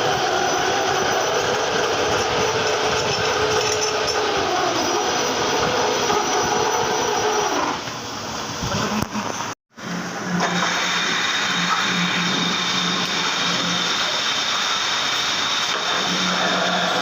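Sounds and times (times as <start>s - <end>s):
lathe grinding: 0.0s - 8.0s, 9.8s - 17.0s.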